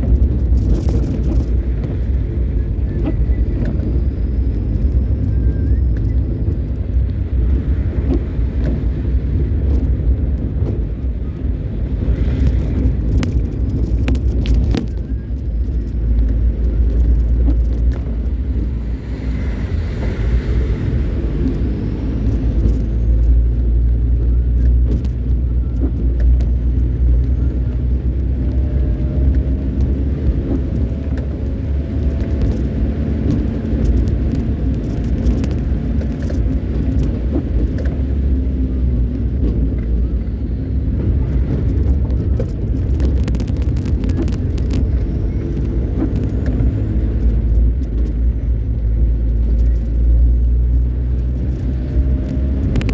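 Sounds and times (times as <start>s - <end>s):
sharp clicks and ticks: 0.0s - 40.4s, 41.0s - 52.9s
car engine and road rumble: 0.0s - 52.9s.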